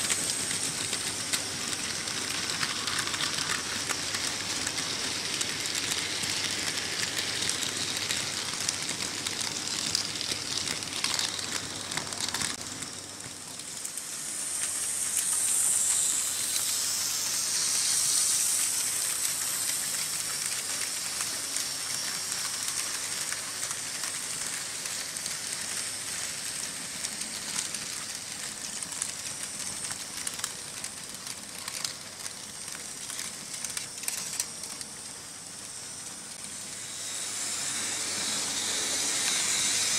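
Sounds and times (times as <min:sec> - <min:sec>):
model train wheels clattering: 0:00.0 - 0:39.9.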